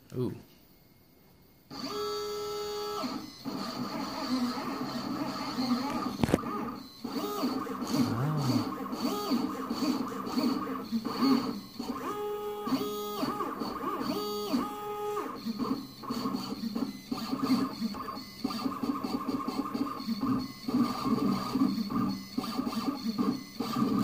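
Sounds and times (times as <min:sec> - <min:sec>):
stepper motors whining: 0:01.8 - 0:24.0.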